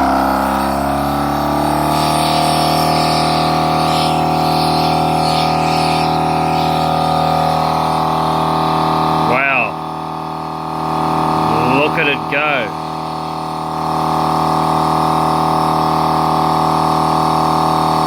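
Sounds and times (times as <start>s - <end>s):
air compressor running: 0.0s - 18.0s.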